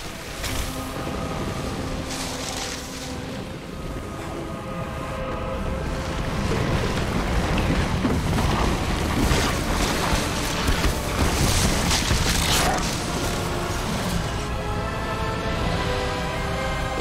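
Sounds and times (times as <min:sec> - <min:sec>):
deep continuous rumble: 0:00.0 - 0:17.0
faint orchestral score: 0:00.0 - 0:17.0.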